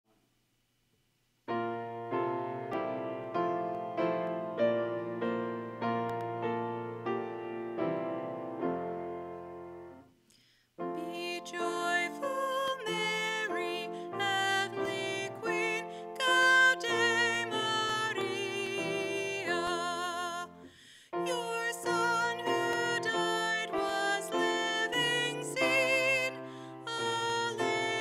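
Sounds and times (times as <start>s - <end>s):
piano playing slow chords: 1.5s - 10.0s, 10.8s - 28.0s.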